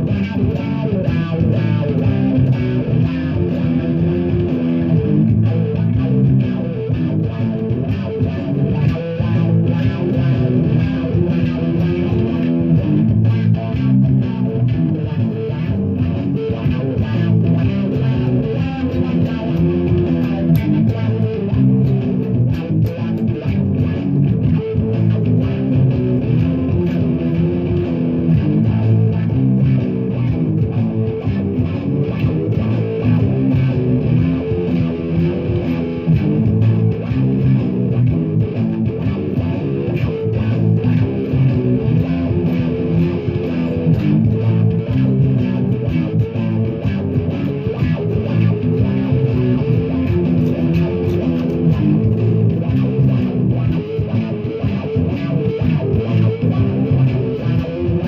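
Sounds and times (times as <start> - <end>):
electric guitar playing: 0.0 - 58.0.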